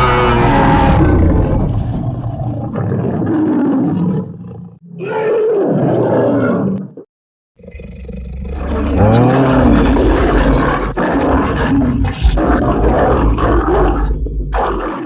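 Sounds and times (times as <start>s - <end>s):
dinosaur growling roar: 0.0s - 4.8s, 7.6s - 15.0s.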